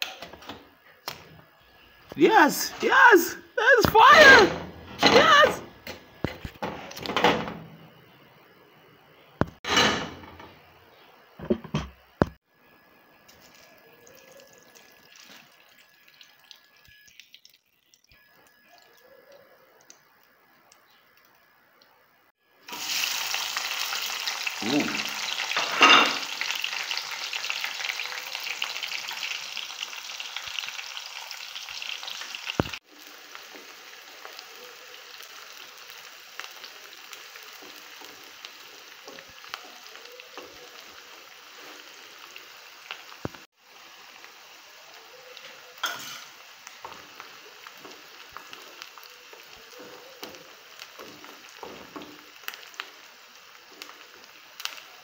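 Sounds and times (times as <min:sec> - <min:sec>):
hot oil sizzling in a pot: 0:09.4 - 0:55.0.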